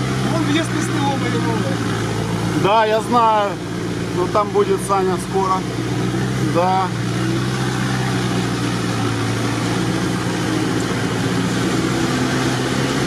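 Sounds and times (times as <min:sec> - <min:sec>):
car engine running at low speed: 0:00.0 - 0:13.0
road and cab noise: 0:00.0 - 0:13.0.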